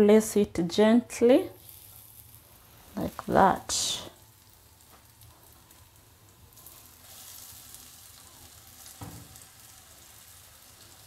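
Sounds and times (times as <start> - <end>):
food sizzling in oil: 1.1 - 11.0.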